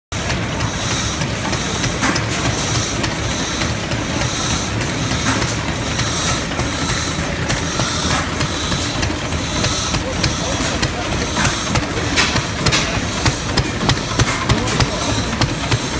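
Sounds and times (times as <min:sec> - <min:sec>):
rhythmic hiss: 0:00.2 - 0:15.9
stationary engine running: 0:00.2 - 0:15.9.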